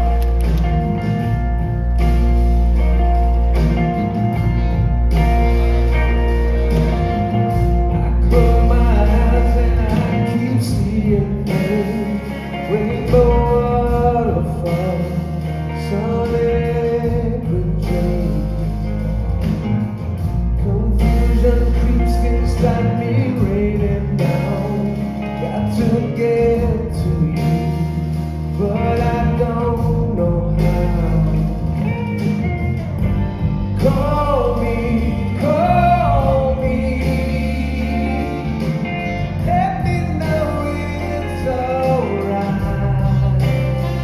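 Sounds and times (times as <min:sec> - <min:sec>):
live band playing ballad: 0:00.0 - 0:44.0
man singing: 0:05.8 - 0:19.3, 0:20.2 - 0:44.0.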